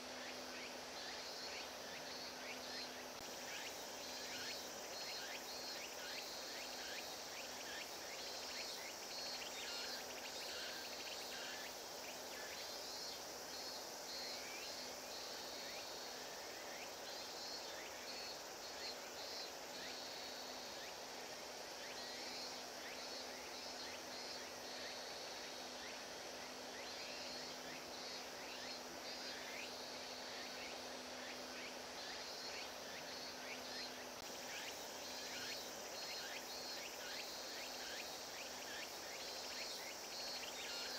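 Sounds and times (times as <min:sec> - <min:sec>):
insects chirping in bursts: 0:00.0 - 0:40.9.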